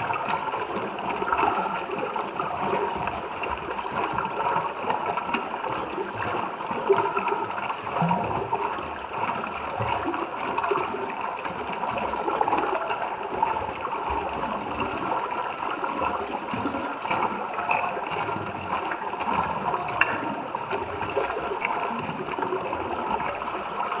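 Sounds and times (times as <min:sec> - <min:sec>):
stream water bubbling: 0:00.0 - 0:24.0.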